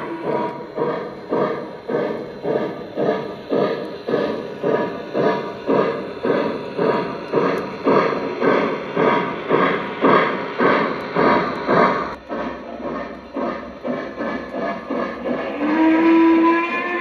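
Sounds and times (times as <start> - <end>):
model locomotive steam chuffs: 0.0 - 17.0.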